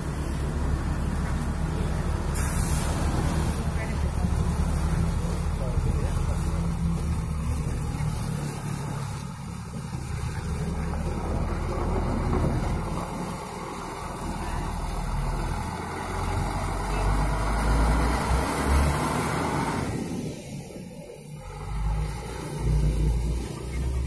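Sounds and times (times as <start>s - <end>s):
heavy truck engine close by: 0.0s - 24.0s
truck pulling away: 0.0s - 24.0s.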